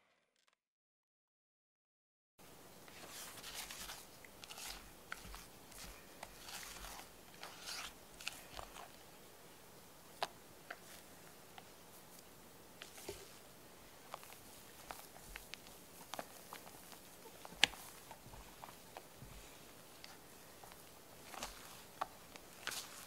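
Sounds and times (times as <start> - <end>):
spatula stirring batter in bowl: 2.8 - 9.2, 10.1 - 23.0.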